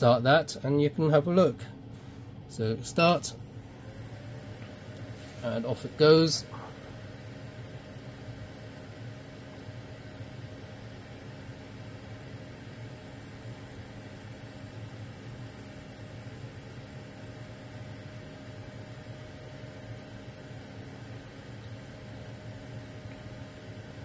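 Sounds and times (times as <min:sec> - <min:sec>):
extraction fan whirring: 0:03.0 - 0:24.0.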